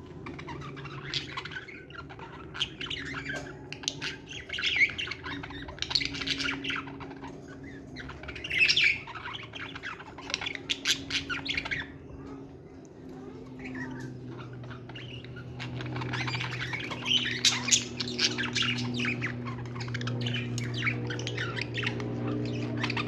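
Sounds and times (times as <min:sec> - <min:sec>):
budgerigars chattering and squawking: 0:00.0 - 0:23.0.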